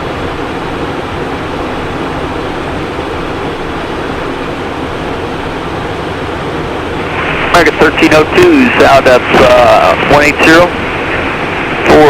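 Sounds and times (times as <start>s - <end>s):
jet cockpit airflow and engine: 0.0s - 12.0s.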